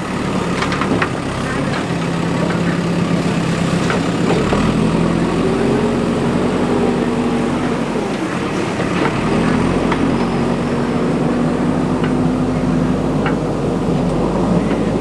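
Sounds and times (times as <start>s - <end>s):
diesel engine revving: 0.0s - 15.0s
faint clicks: 0.4s - 15.0s.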